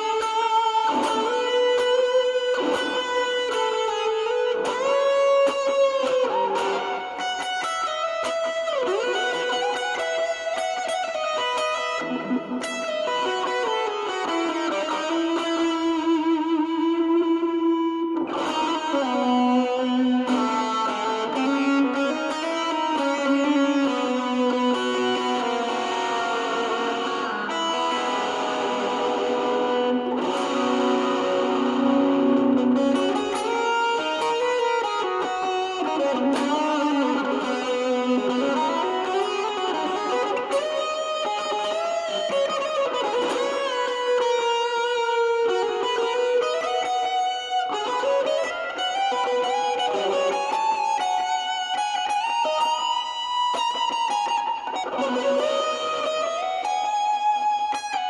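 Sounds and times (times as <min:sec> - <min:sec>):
distorted electric guitar lead: 0:00.0 - 0:58.0.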